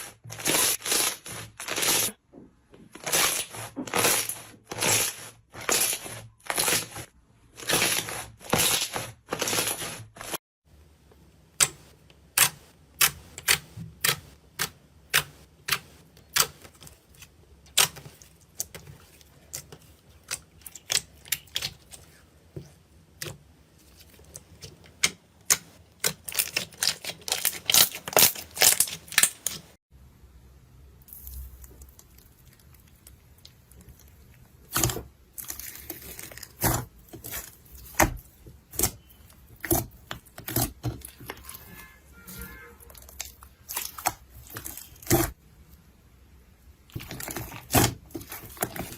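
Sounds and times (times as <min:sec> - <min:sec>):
slime squelching: 0:00.0 - 0:10.4, 0:11.6 - 0:29.8, 0:31.0 - 0:45.9, 0:46.6 - 0:48.9.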